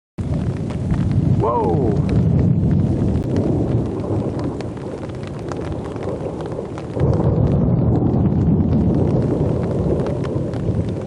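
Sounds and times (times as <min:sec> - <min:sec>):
thunder rumbling with crackle: 0:00.2 - 0:11.0.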